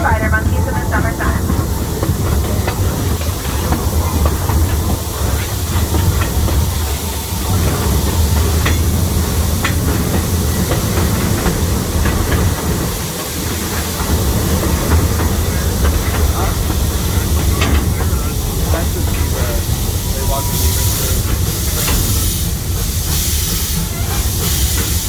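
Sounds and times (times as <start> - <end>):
train rumble and hiss: 0.0 - 25.0
faint rail clicks: 0.3 - 25.0.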